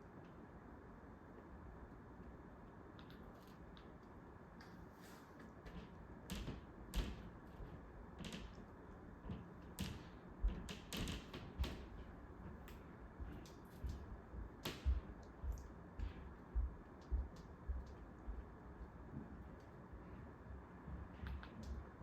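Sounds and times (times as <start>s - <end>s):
ceiling fan air noise: 0.0s - 22.0s.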